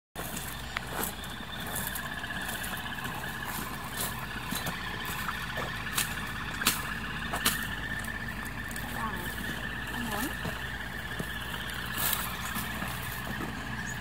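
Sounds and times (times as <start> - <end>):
rustling in dry grass: 0.2 - 14.0.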